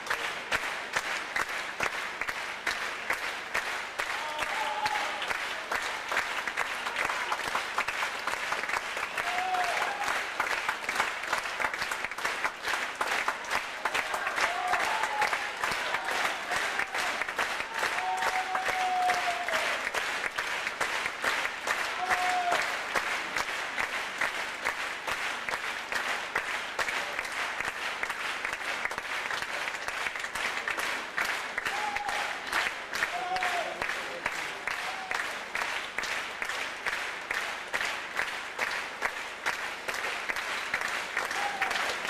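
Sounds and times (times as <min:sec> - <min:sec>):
audience applauding: 0:00.0 - 0:42.0.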